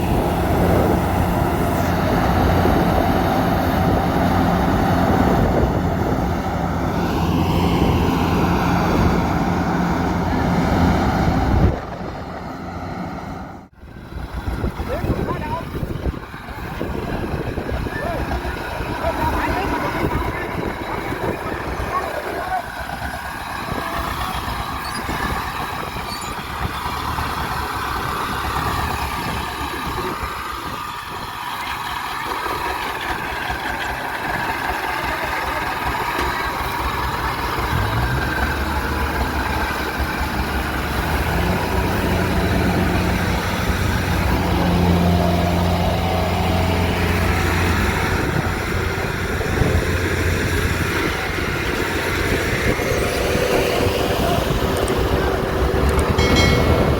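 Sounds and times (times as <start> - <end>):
diesel engine running under load: 0.0 - 56.9.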